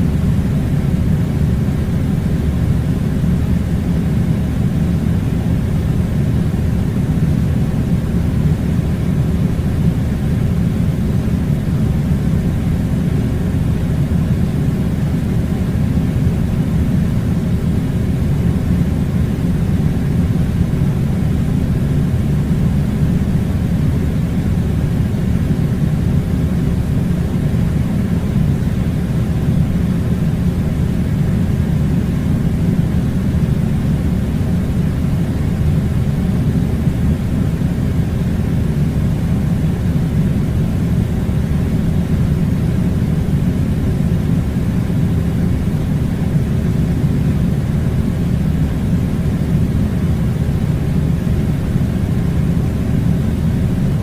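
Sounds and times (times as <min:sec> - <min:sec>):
air conditioning unit blowing: 0:00.0 - 0:54.0.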